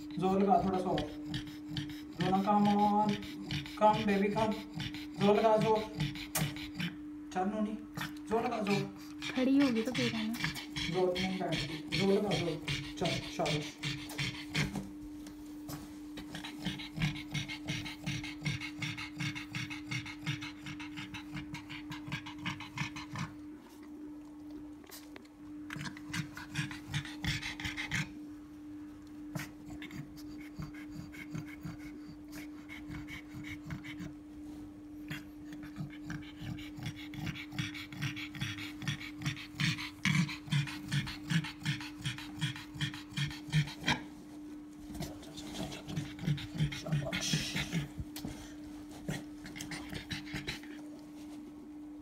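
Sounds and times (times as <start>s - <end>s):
dog panting rapidly: 0.0s - 7.0s, 7.9s - 15.0s, 15.6s - 23.4s, 25.8s - 28.2s, 29.4s - 44.2s, 44.8s - 51.4s
steady low hum: 0.0s - 52.0s.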